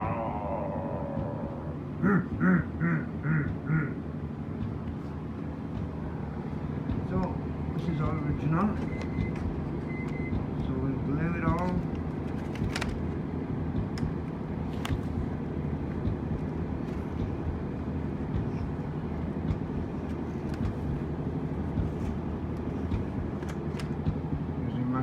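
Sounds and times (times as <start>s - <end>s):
low mechanical motor drone: 0.0s - 25.0s.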